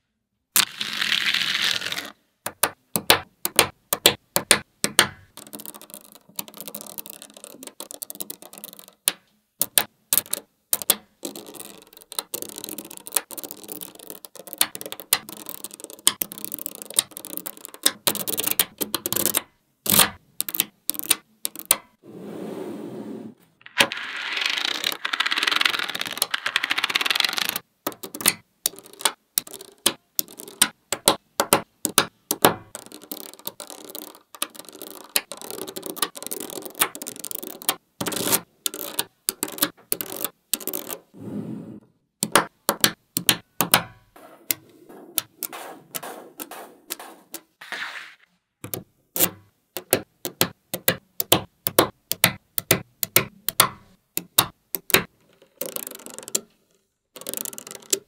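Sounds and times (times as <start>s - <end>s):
magnetic balls rattling: 0.6s - 22.0s, 23.6s - 41.2s, 42.2s - 47.6s, 48.6s - 58.0s
magnetic balls clicking together: 1.6s - 22.0s, 23.6s - 41.2s, 42.2s - 47.6s, 48.6s - 58.0s.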